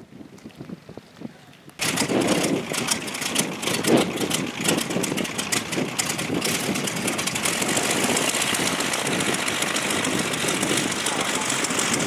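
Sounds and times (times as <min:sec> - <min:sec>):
aircraft engine idling: 0:01.8 - 0:12.0.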